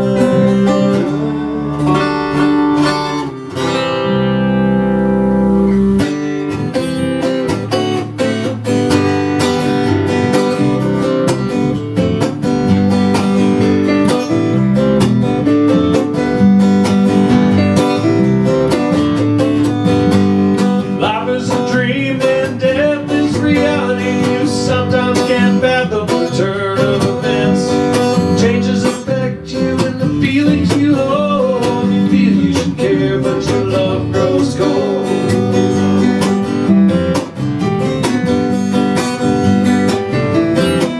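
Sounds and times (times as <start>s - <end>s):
bending guitar notes: 0.0s - 40.9s
strummed acoustic guitar chords: 0.0s - 40.9s.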